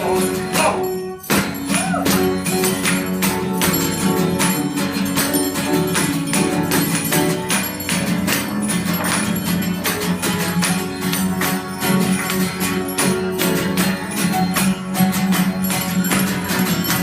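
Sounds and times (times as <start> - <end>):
ringing percussion music: 0.0 - 17.0.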